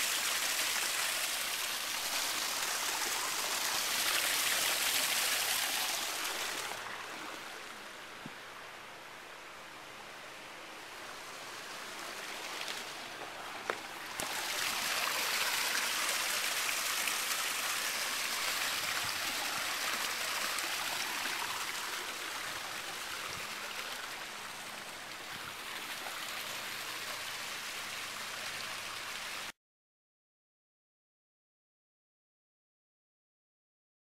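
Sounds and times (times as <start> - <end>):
waterfall rushing into pool: 0.0 - 8.7, 10.9 - 29.5.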